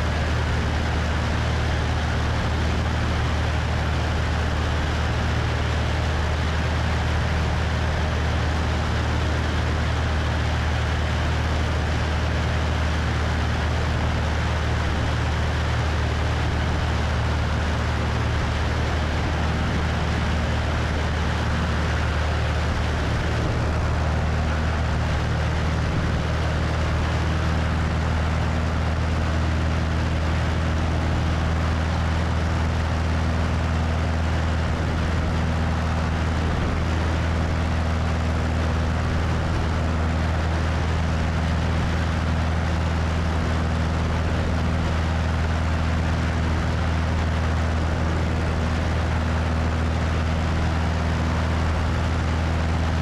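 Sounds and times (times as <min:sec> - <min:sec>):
propeller plane engine droning: 0:00.0 - 0:53.0.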